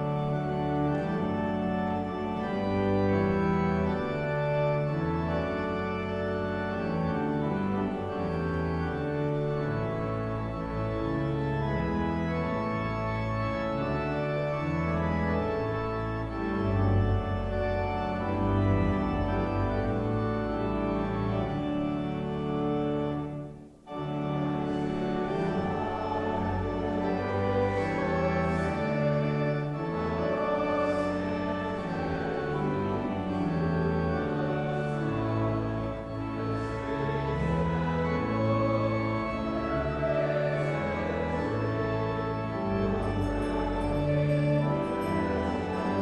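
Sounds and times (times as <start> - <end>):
church organ playing chords: 0.0 - 46.0.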